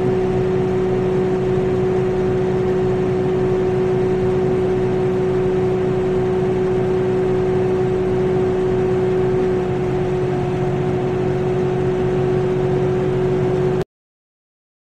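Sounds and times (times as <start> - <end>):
loud mechanical hum: 0.0 - 13.8.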